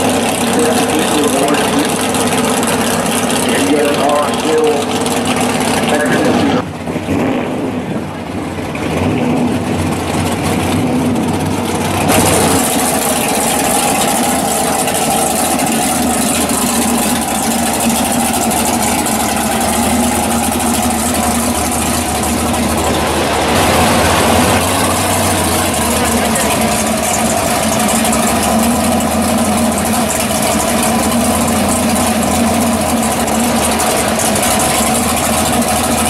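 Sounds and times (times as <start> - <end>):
other race cars idling: 0.0 - 36.0
race car engine idling: 0.0 - 36.0.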